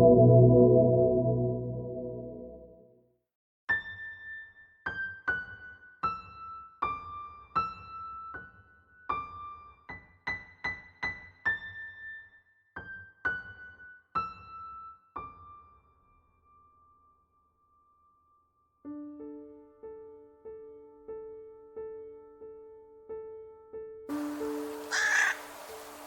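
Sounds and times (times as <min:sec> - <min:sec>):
slow piano-like melody: 0:00.0 - 0:02.8, 0:03.8 - 0:26.0.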